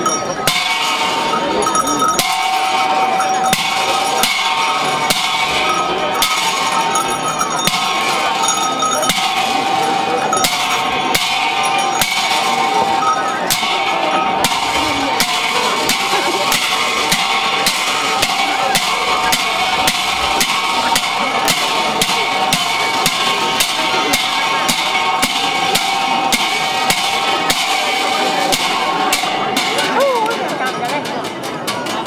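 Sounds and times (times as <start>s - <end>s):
steady ringing tone: 0.0s - 30.1s
cymbals crashing: 0.0s - 32.0s.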